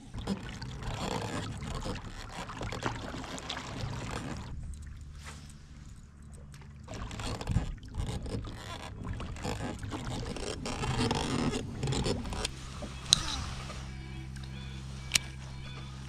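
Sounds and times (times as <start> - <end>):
steady low hum: 0.0 - 16.0
water splashing: 0.0 - 16.0.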